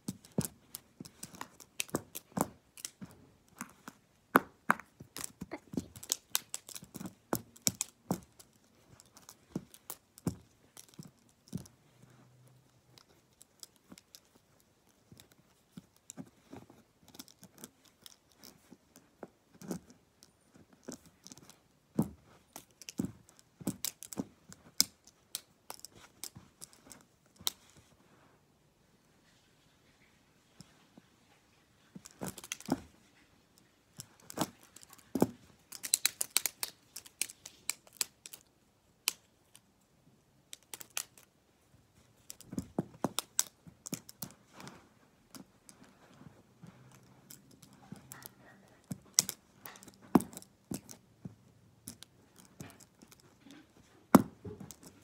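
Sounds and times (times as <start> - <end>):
plastic pens clacking together: 0.0 - 27.8, 31.9 - 39.7, 40.4 - 41.4, 42.1 - 55.0.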